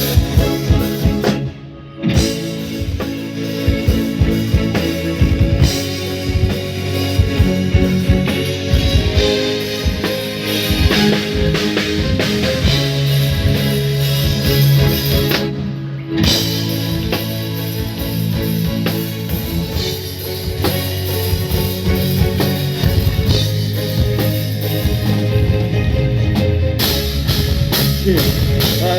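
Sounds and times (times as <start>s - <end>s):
drum kit: 0.0s - 28.9s
electric guitar: 0.0s - 28.9s
steady bass line: 0.0s - 28.9s.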